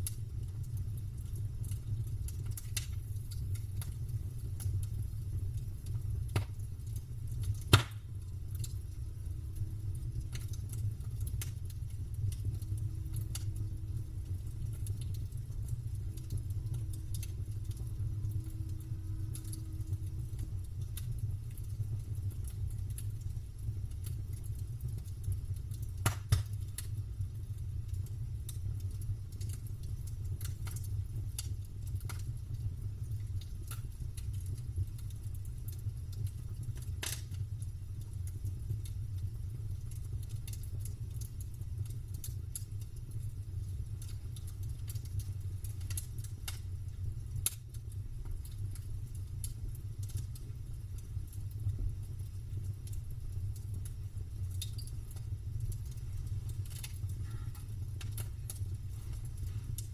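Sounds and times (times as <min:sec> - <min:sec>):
campfire crackling and popping: 0:00.0 - 0:59.9
steady low rumble: 0:00.0 - 0:59.9.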